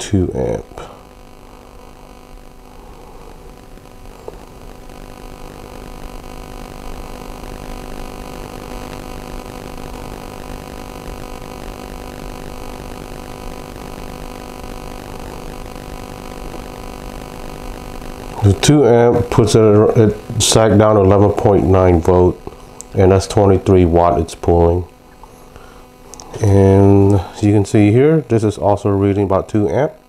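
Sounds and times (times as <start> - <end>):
cooling fan whirring: 0.0 - 30.0
electrical hum: 0.0 - 30.0.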